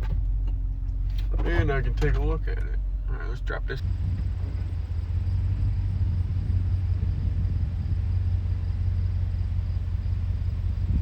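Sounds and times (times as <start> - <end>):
pickup truck engine running: 0.0 - 11.0.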